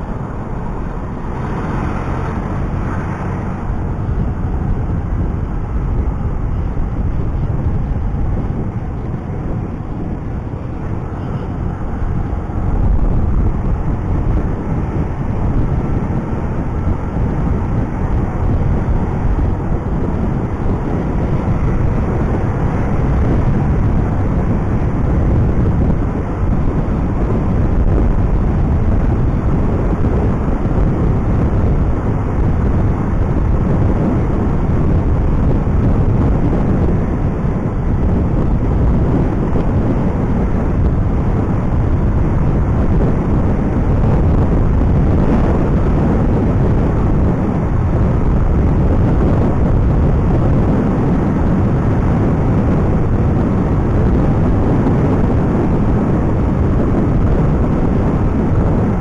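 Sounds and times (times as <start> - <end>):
motorcycle engine: 0.0 - 59.0
wind rumble on microphone: 0.0 - 59.0.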